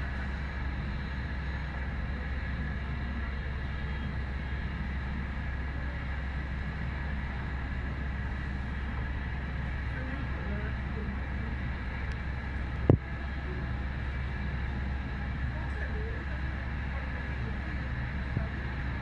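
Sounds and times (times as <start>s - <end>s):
faint high whine: 0.0s - 19.0s
low engine rumble: 0.0s - 19.0s.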